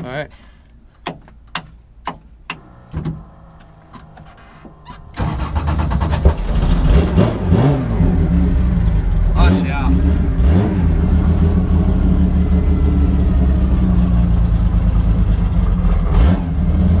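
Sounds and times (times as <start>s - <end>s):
race car engine starting and revving: 2.4s - 17.0s.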